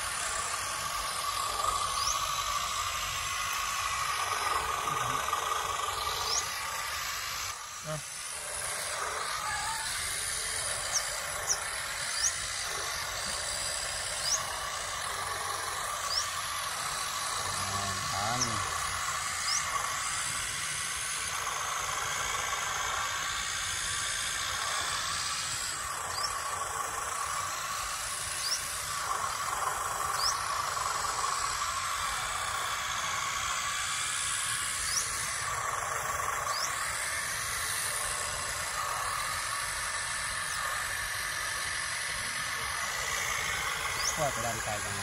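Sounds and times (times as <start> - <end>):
toy tractor whining mechanical hiss: 0.0 - 45.0.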